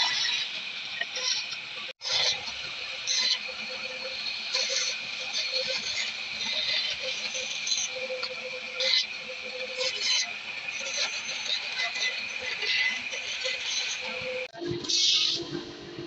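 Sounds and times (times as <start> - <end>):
band saw whining: 0.0 - 16.0
saw cutting wood: 0.0 - 16.0.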